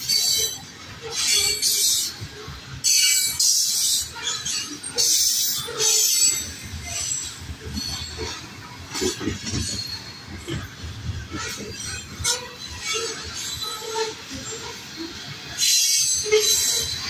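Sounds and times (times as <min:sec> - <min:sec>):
freight train wheels rumbling: 0:00.0 - 0:17.0
wheel squeals: 0:00.0 - 0:17.0.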